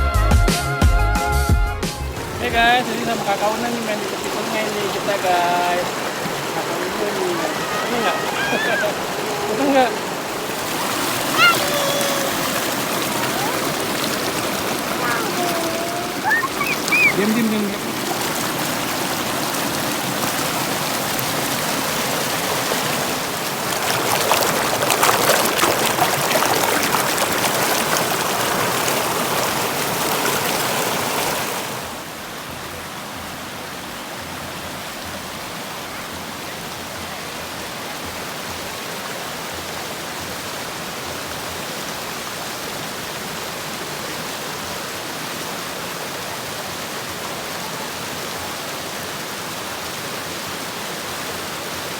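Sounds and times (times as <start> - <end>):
river rushing over rocks: 2.2 - 51.9.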